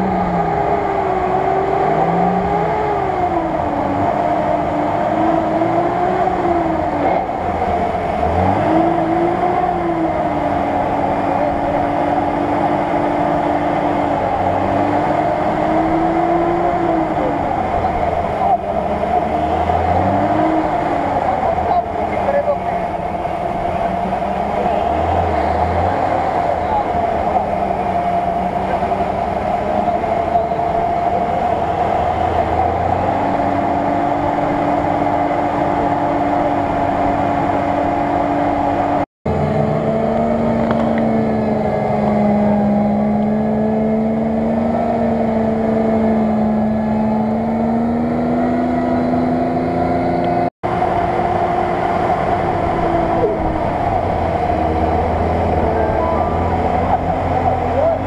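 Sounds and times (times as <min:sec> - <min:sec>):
off-road engines revving: 0:00.0 - 0:58.0.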